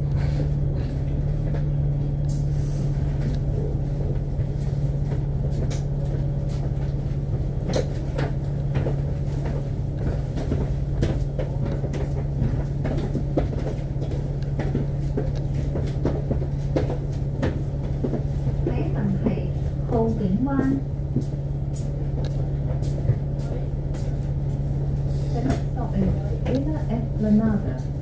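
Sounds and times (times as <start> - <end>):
bus engine droning: 0.0 - 28.0.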